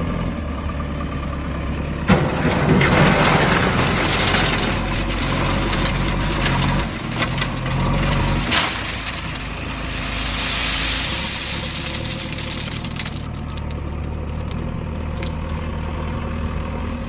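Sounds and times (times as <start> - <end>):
diesel engine running: 0.0 - 17.0
rocks knocking and clattering: 2.1 - 16.7.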